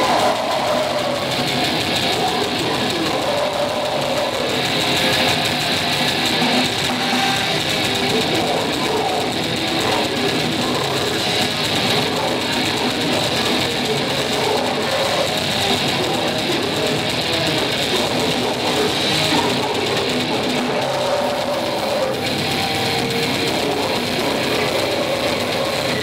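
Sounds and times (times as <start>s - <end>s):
metal band playing live: 0.0s - 26.0s.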